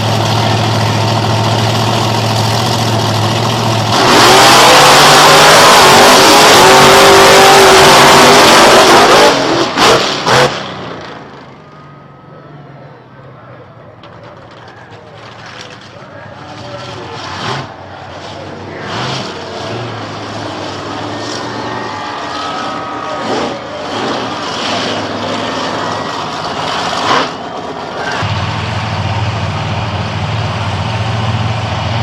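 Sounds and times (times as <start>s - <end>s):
truck engine revving: 0.0s - 11.9s, 13.9s - 32.0s.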